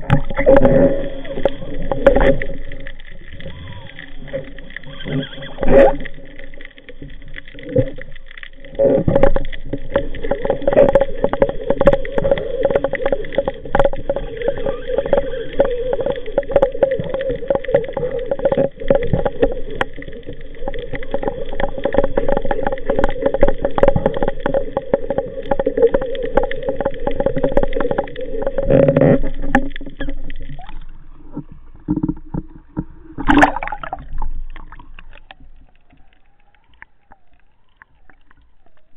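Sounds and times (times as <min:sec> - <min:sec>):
bubbling and splashing: 0:00.0 - 0:38.9
underwater crackling: 0:00.0 - 0:38.9
underwater droning hum: 0:00.0 - 0:38.9.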